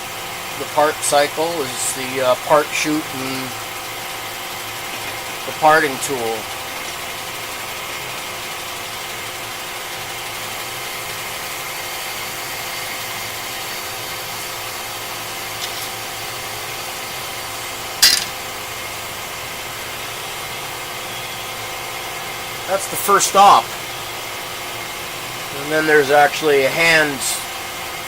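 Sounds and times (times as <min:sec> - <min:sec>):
lathe machine hum: 0:00.0 - 0:28.0.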